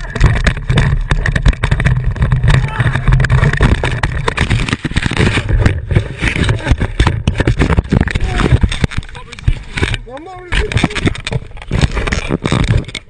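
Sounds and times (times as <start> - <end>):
sharp knocks and rattles: 0.0 - 13.0.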